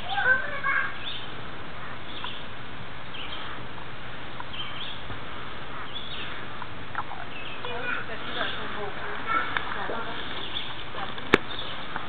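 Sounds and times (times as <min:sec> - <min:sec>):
birds chirping: 0:00.0 - 0:12.0
outdoor background hiss: 0:00.0 - 0:12.0.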